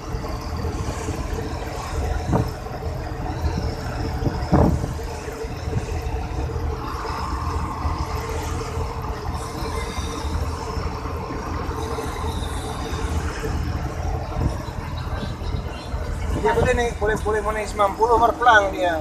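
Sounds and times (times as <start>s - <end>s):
diesel truck engine drone: 0.0s - 19.0s
road noise: 0.0s - 19.0s.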